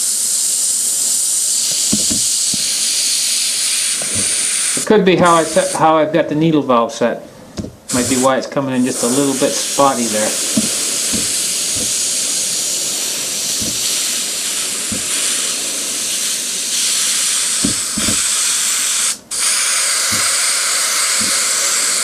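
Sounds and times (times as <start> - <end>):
airbrush spraying hiss: 0.0 - 6.1, 7.8 - 22.0.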